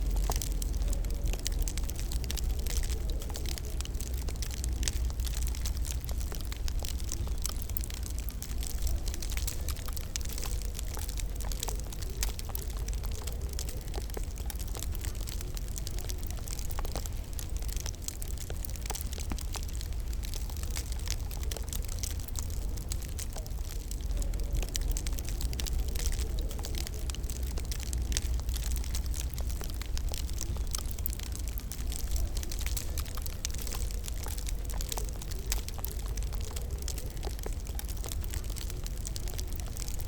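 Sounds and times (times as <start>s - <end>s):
low steady rumble: 0.0s - 40.0s
wood fire crackling: 0.0s - 40.0s.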